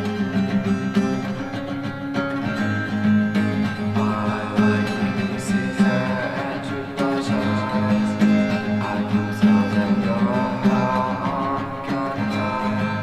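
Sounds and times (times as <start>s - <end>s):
acoustic guitar strummed and picked: 0.0s - 13.0s.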